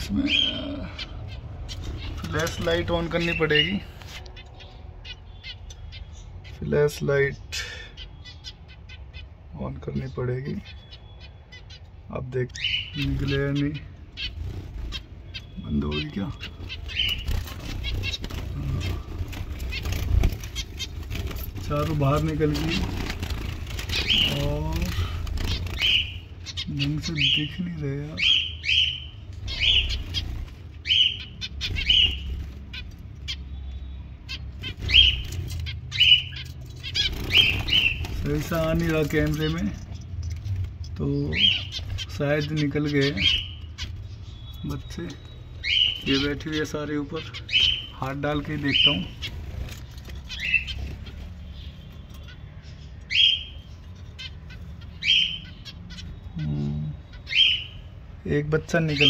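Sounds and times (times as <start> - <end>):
finches calling: 0.0 - 59.0.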